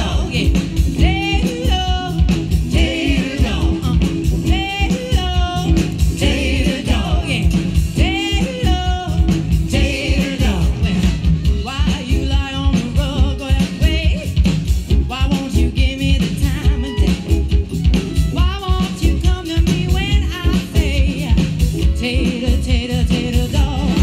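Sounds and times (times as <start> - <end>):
live band playing: 0.0 - 24.0
person singing with vibrato: 0.0 - 24.0.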